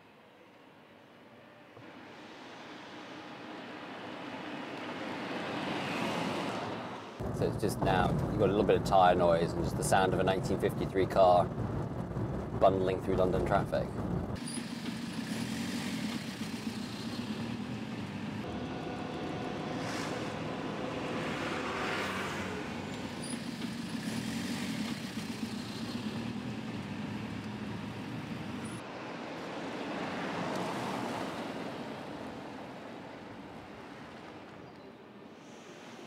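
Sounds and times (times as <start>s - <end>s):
traffic passing: 0.0s - 36.0s
tyre and road noise: 1.2s - 36.0s.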